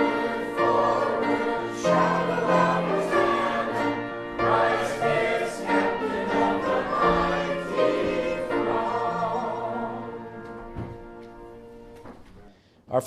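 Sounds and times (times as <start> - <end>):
voices singing a hymn: 0.0 - 11.8.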